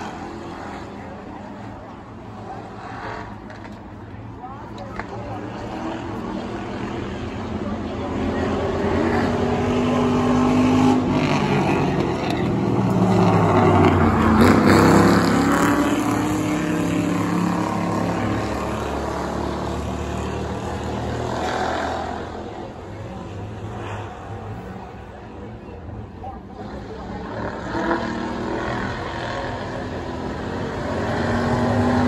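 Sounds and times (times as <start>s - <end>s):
race car engines passing: 0.0s - 32.0s.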